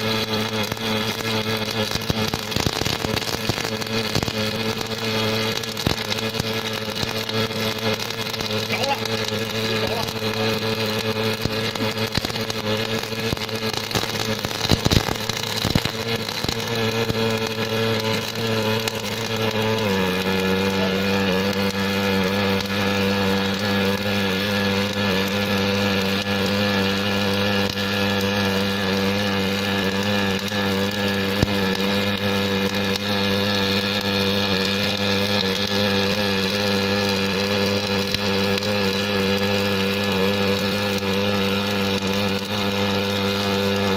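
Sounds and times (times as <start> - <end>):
welding machine hum: 0.0 - 43.9.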